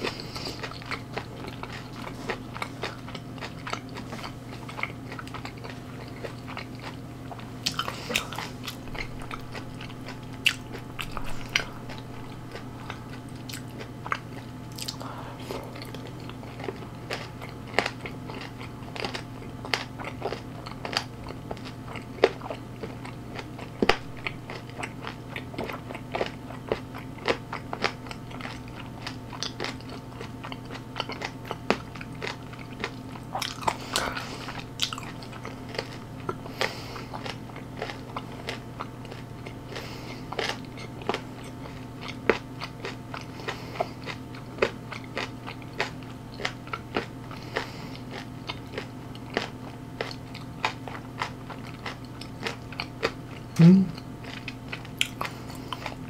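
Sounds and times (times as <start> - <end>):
mouth chewing crunchy food: 0.0 - 56.0
steady low hum: 0.0 - 56.0.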